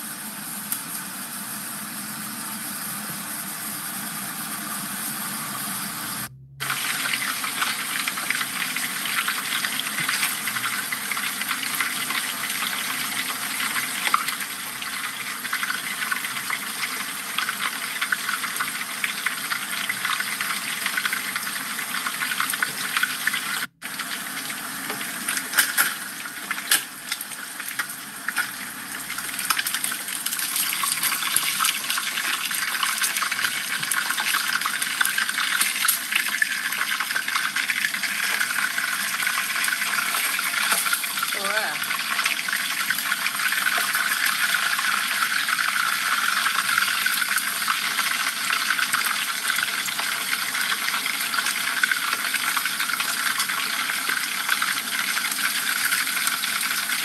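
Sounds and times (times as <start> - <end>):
oil sizzling and crackling: 0.0 - 57.0.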